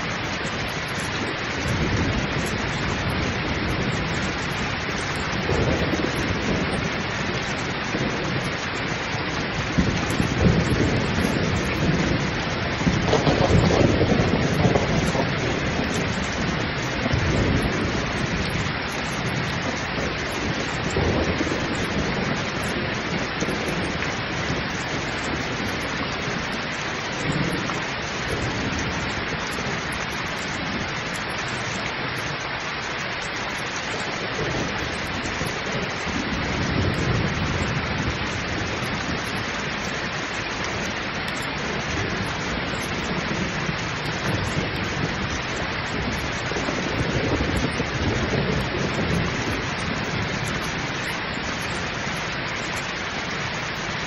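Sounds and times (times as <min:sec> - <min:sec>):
heavy rain pouring: 0:00.0 - 0:54.0
low thunder rumbling: 0:00.0 - 0:54.0.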